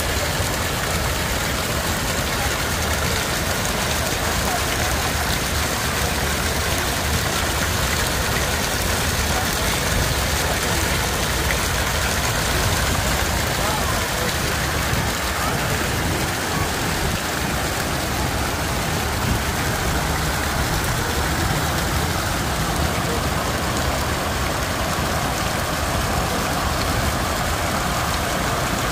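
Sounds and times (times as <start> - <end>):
distant water jets spraying: 0.0 - 28.9
fountain water pouring into pool: 0.0 - 28.9.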